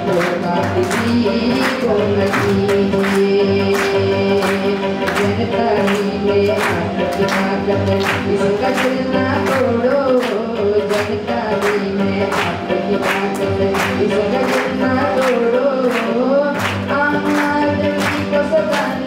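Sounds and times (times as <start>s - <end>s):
hand claps: 0.0s - 19.0s
harmonium: 0.0s - 19.0s
people singing: 0.0s - 19.0s
tabla: 0.0s - 19.0s.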